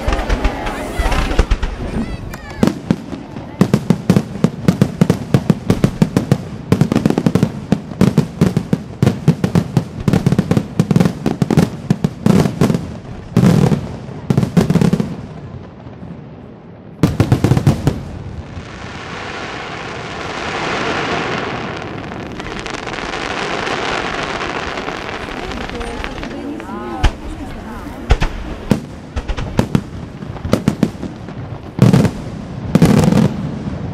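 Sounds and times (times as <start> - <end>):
firework fountain hiss: 0.0 - 15.4, 17.1 - 33.9
firework bursts and crackling: 0.0 - 33.9.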